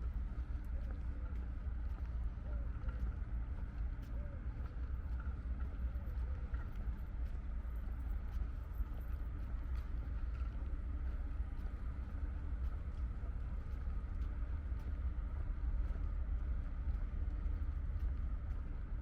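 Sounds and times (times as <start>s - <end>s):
deep rumble of wind and sea: 0.0s - 19.0s.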